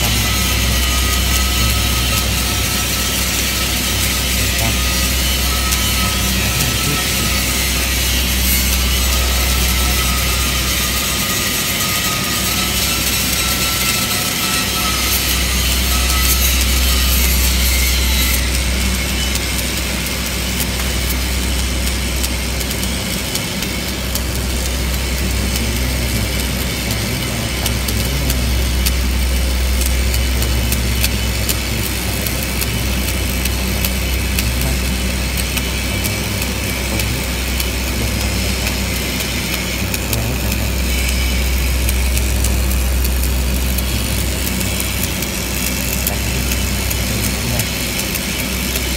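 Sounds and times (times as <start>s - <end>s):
low hum: 0.0s - 48.9s
welding arc crackling: 0.0s - 48.9s.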